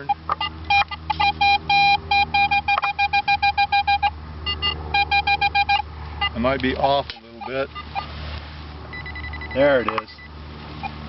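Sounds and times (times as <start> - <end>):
metal detector beeping: 0.0 - 8.2, 8.9 - 11.0.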